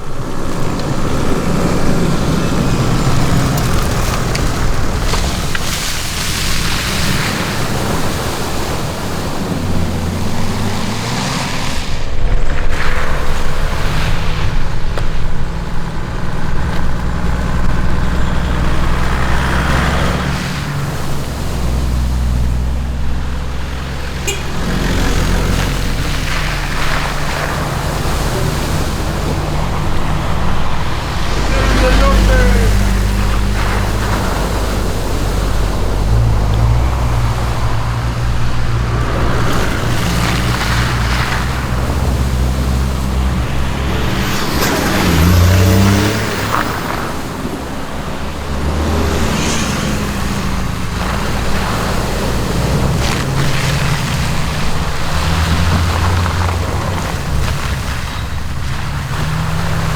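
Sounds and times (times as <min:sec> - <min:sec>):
diesel engine revving: 0:00.0 - 0:59.9
rough tyre and body noise: 0:00.0 - 0:59.9.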